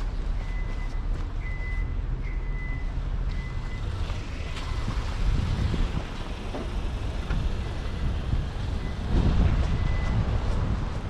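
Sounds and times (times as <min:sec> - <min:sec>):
rumble of vehicle traffic: 0:00.0 - 0:11.0.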